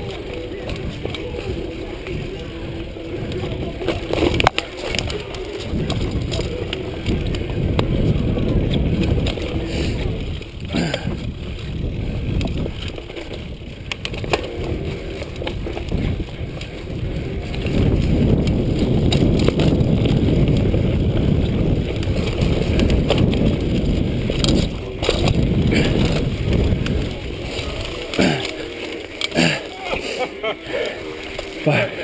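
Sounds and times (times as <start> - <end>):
wind on microphone: 0.0 - 29.6
bike clicks and rattles: 0.0 - 32.0
tyres rumbling on dirt: 0.0 - 32.0.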